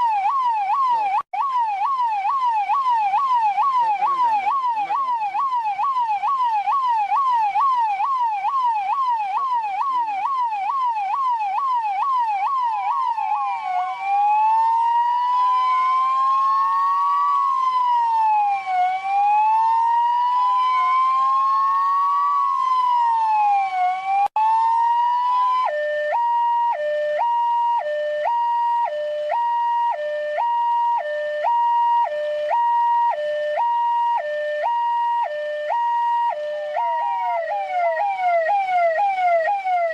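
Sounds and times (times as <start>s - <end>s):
police siren cycling modes: 0.0s - 39.9s.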